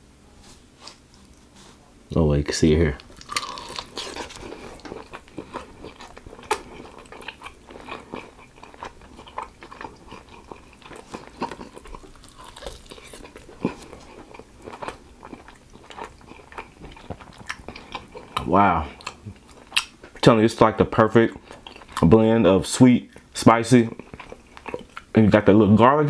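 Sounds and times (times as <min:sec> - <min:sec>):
chewing and crunching: 0:03.0 - 0:25.5.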